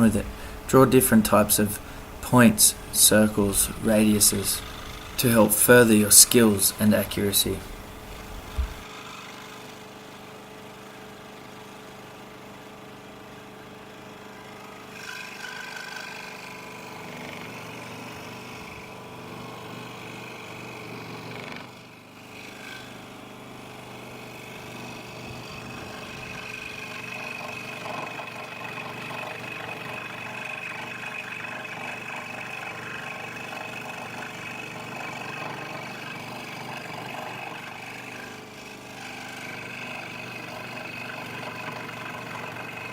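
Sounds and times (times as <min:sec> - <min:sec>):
scroll saw cutting timber: 0:00.0 - 0:10.3, 0:14.1 - 0:42.9.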